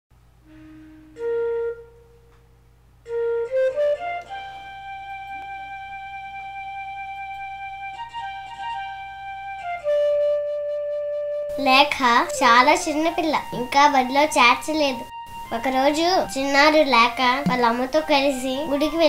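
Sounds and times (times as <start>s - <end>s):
solo flute melody: 0.5s - 11.6s, 12.2s - 16.7s.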